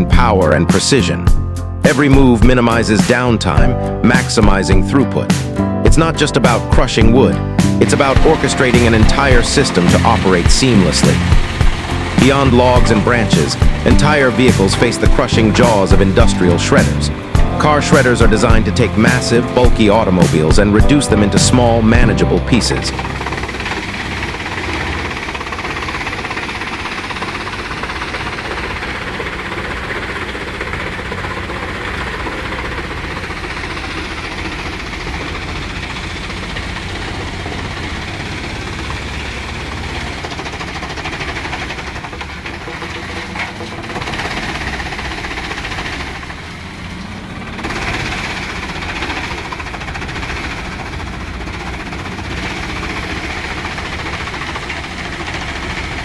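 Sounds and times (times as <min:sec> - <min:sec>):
car shredder grinding: 0:07.4 - 0:56.0.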